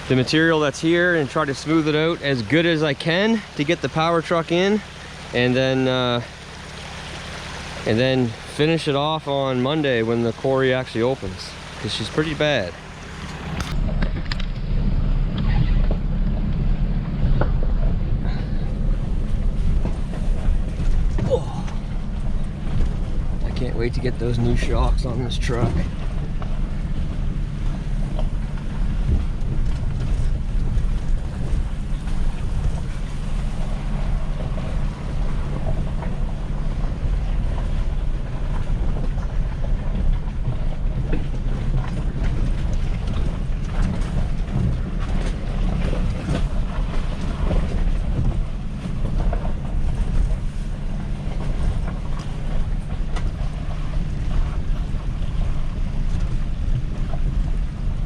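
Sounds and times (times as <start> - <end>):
knocks and rattles over bumps: 0.0 - 58.0
truck engine drone: 0.0 - 58.0.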